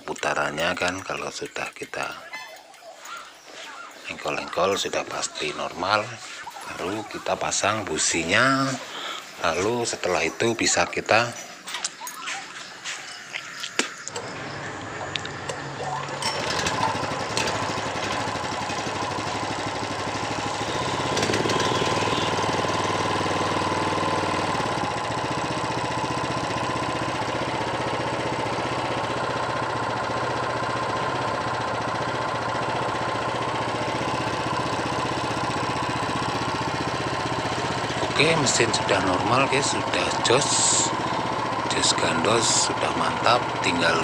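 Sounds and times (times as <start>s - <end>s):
petrol engine starting and running: 0.0s - 44.0s.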